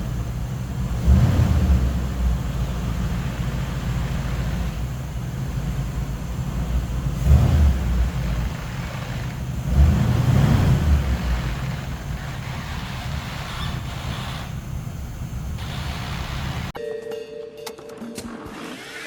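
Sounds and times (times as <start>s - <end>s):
pickup engine rumble: 0.0s - 16.8s.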